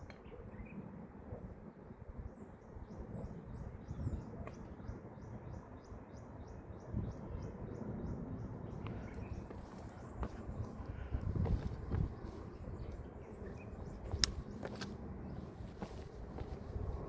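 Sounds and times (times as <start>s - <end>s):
wind rumbling on microphone: 0.0s - 5.6s, 6.4s - 17.0s
bird chirping: 3.0s - 17.0s.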